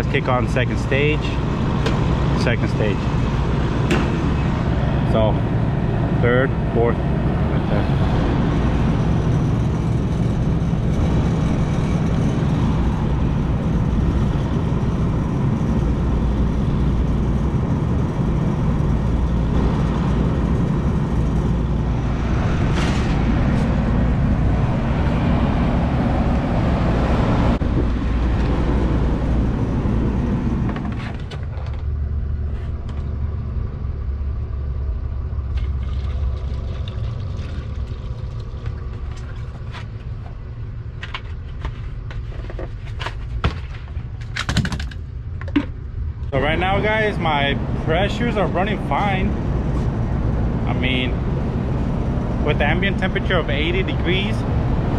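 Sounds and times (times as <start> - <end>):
air conditioner hum and fan rush: 0.0 - 54.9.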